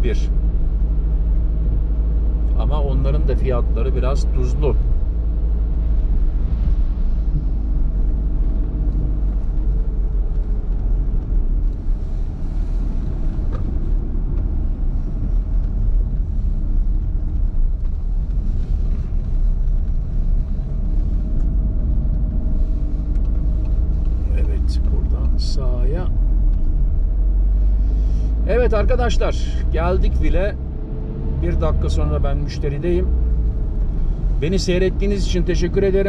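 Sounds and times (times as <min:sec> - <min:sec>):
car engine hum: 0:00.0 - 0:36.0
tyre noise on wet road: 0:03.1 - 0:36.0.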